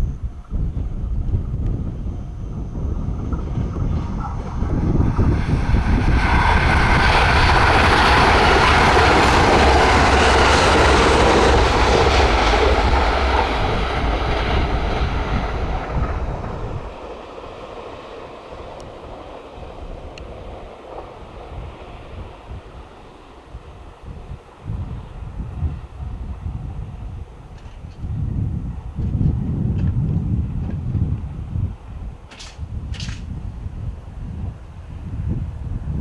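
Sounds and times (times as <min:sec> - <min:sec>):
train passing: 0:00.0 - 0:36.0.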